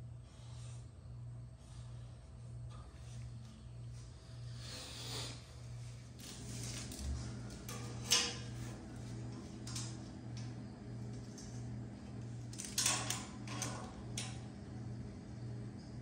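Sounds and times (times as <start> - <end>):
low pulsing hum: 0.0 - 16.0.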